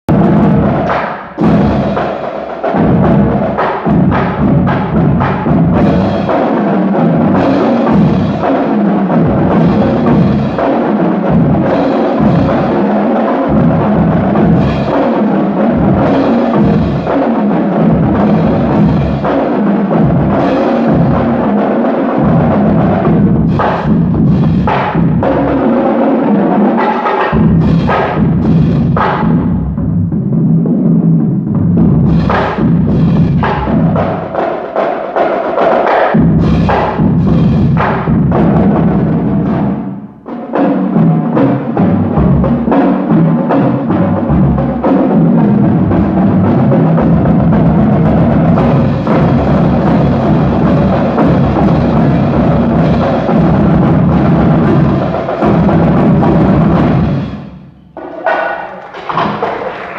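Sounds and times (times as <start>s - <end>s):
drumline playing: 0.1s - 59.9s.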